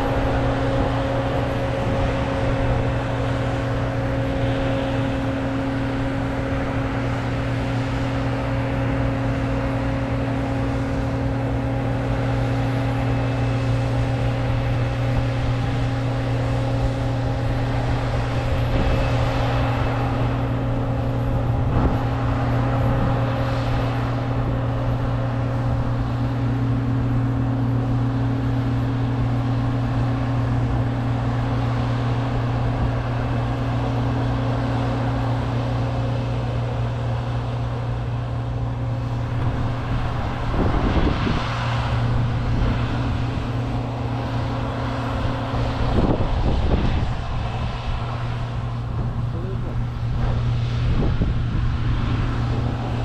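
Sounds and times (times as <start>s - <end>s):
combine harvester engine drone: 0.0s - 53.0s.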